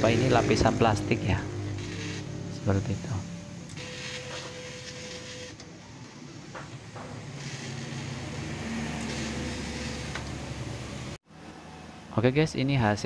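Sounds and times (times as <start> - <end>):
cutting plotter motors whirring: 0.0 - 11.2.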